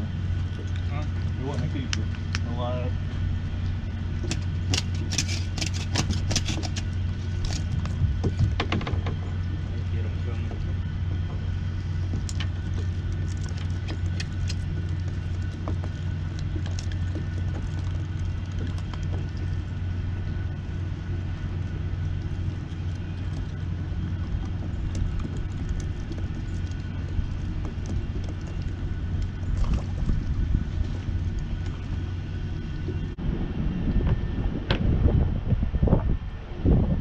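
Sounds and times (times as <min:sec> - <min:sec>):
faint steady whine: 0:00.0 - 0:37.0
low mechanical rumble: 0:00.0 - 0:37.0.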